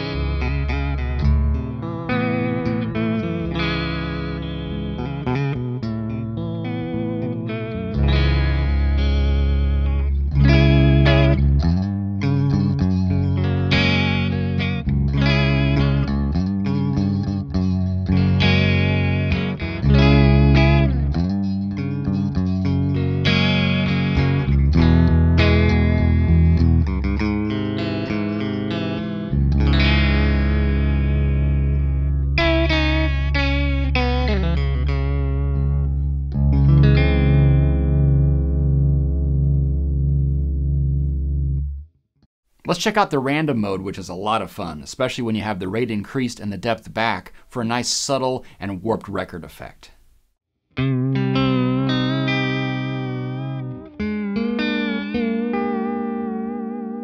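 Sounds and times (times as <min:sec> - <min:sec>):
electric guitar chords with vibrato: 0:00.0 - 0:41.8, 0:50.8 - 0:57.0.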